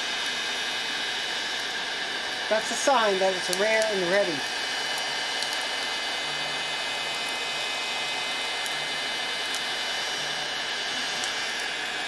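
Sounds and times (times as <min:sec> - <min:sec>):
heat gun fan hissing: 0:00.0 - 0:12.0.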